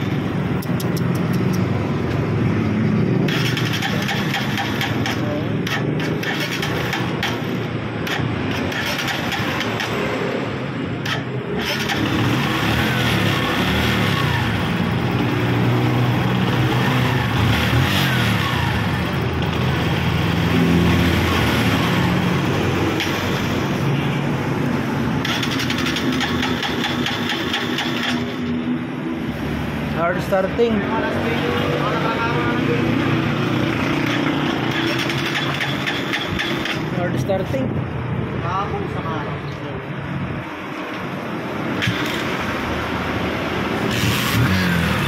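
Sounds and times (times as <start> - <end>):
motorcycle engine revving: 0.0 - 37.6, 41.6 - 45.0.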